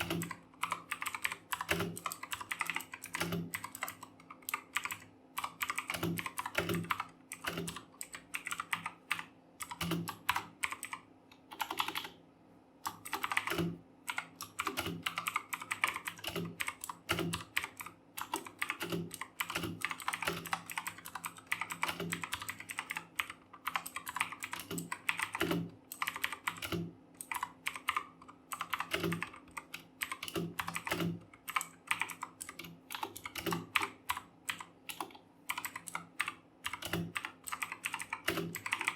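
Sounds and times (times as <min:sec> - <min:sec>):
fast typing on mechanical keyboard: 0:00.0 - 0:12.2, 0:12.8 - 0:38.9.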